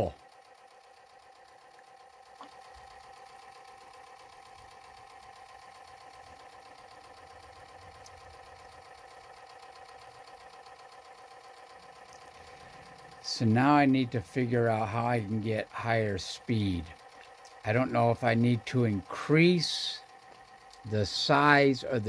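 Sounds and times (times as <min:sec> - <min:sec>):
motor buzzing: 0:00.0 - 0:22.0.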